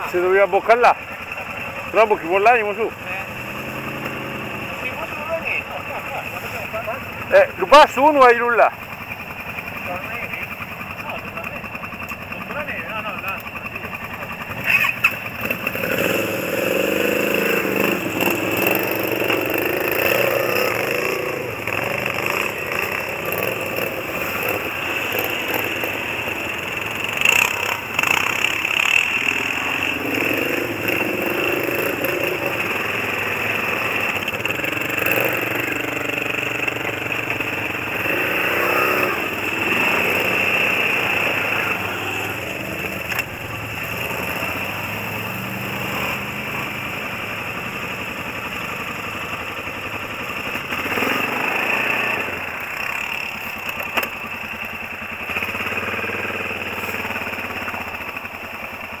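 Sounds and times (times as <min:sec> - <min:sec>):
quad bike engines revving: 0:00.0 - 0:59.0.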